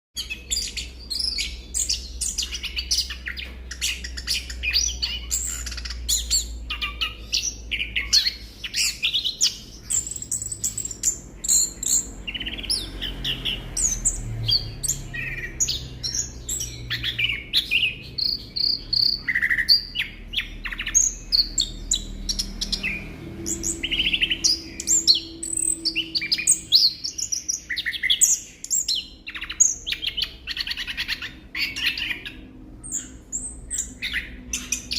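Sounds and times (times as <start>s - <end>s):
thrush singing whistled notes: 0.2s - 34.9s.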